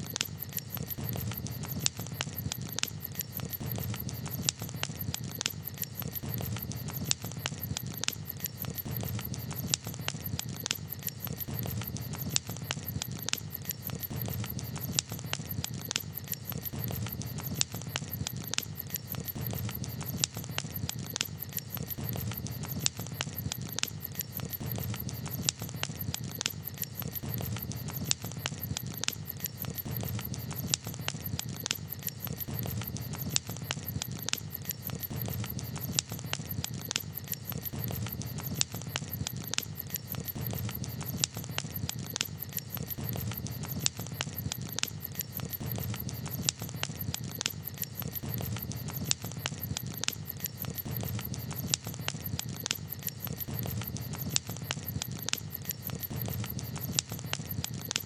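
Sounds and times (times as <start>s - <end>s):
campfire pops and snaps: 0.0s - 58.0s
fire low rumble: 0.1s - 58.0s.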